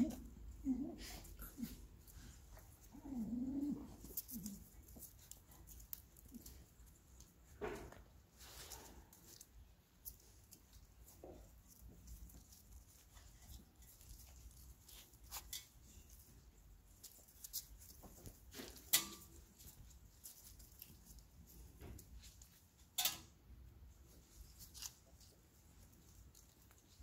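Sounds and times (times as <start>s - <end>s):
puppy paws pattering on bricks: 0.0s - 23.0s, 24.0s - 27.0s.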